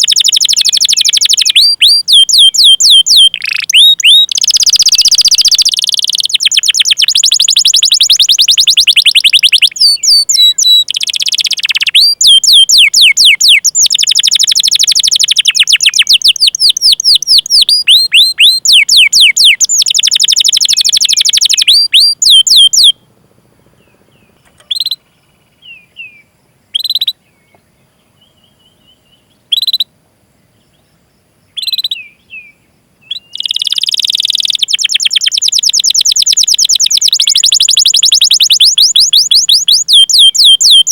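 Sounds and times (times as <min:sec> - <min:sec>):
canary singing trills and chirps: 0:00.0 - 0:29.9, 0:31.5 - 0:40.9.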